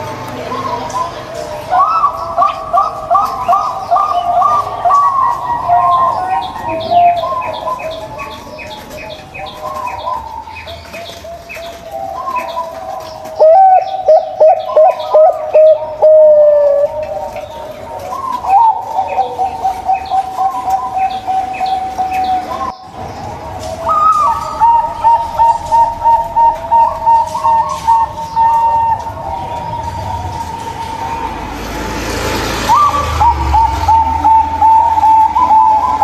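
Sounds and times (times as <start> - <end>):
doves cooing: 0.0 - 36.0.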